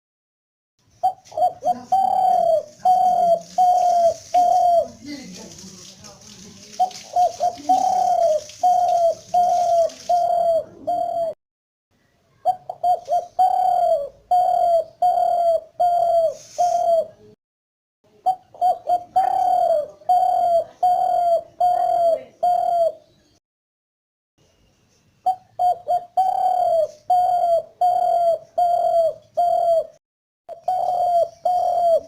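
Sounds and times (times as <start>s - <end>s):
dove cooing: 1.0s - 5.5s, 6.6s - 11.4s, 12.4s - 17.3s, 18.2s - 23.1s, 25.2s - 32.0s.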